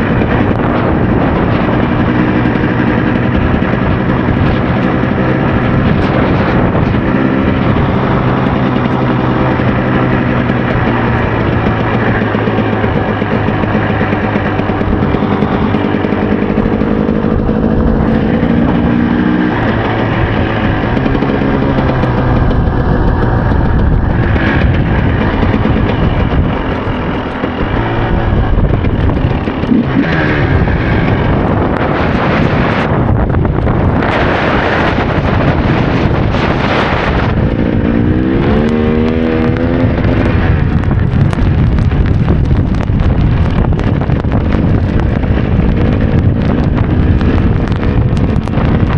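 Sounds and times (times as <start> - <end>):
motorcycle engine running: 0.0 - 48.9
rushing noise: 0.0 - 48.9.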